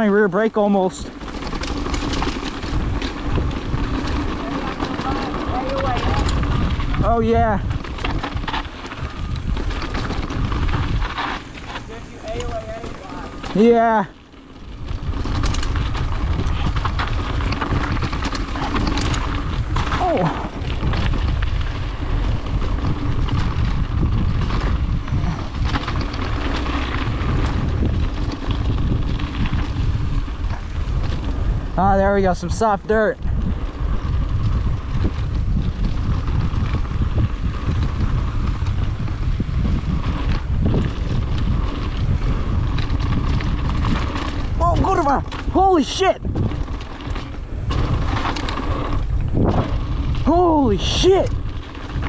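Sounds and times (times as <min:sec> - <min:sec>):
bike rattling and clicking: 0:00.0 - 0:52.0
tyres rumbling on dirt: 0:00.0 - 0:52.0
wind on microphone: 0:00.0 - 0:52.0.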